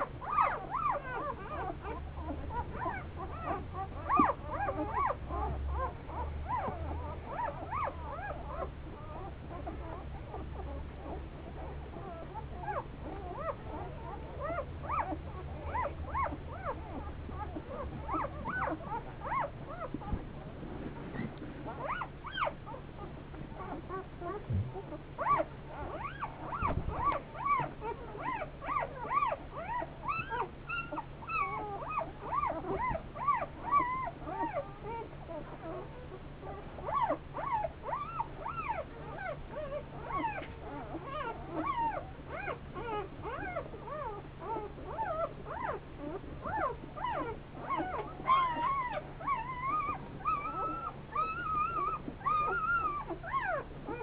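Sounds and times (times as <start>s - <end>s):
puppies squeaking and whimpering: 0.0s - 54.0s.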